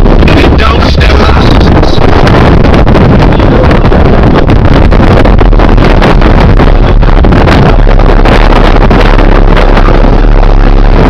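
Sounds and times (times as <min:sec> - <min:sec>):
loud deep subwoofer bass: 0:00.0 - 0:11.0
wind buffeting microphone: 0:00.0 - 0:11.0.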